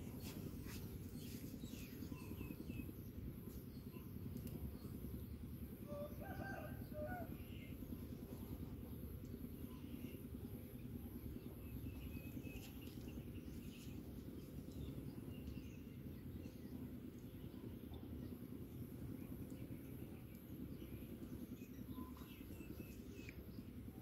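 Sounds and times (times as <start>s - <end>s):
low outdoor background noise: 0.0s - 24.0s.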